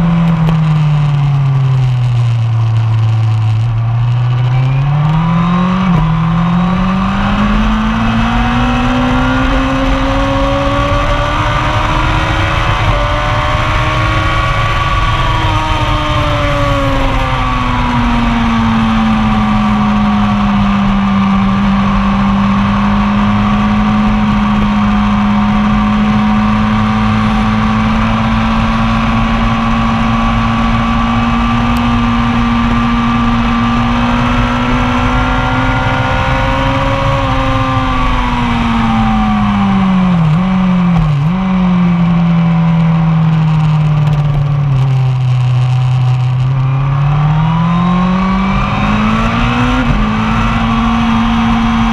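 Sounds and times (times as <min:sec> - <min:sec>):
motorcycle engine at high revs: 0:00.0 - 0:51.9
wind and road noise: 0:00.0 - 0:51.9.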